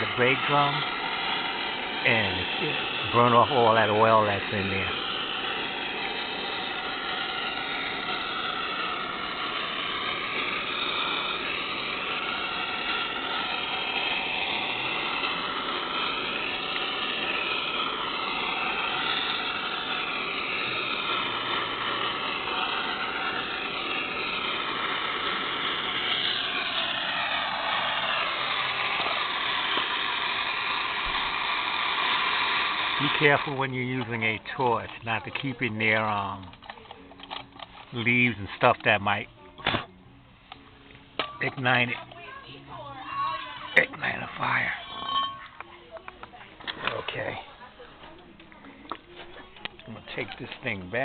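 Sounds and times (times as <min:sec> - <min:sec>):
gas torch flame roaring: 0:00.0 - 0:51.0.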